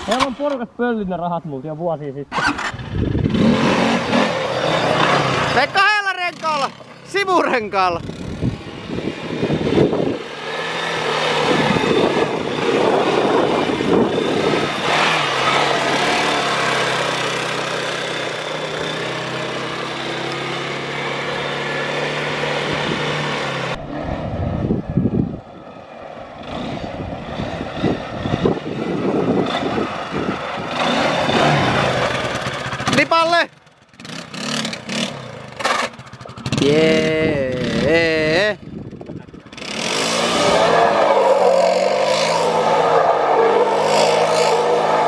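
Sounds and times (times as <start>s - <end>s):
atv engine running: 2.4s - 45.0s.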